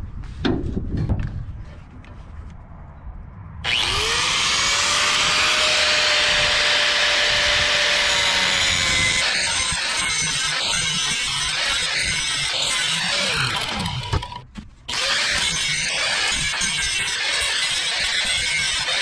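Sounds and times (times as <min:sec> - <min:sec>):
angle grinder motor whine: 0:03.6 - 0:19.0
grinding disc on metal: 0:03.7 - 0:19.0.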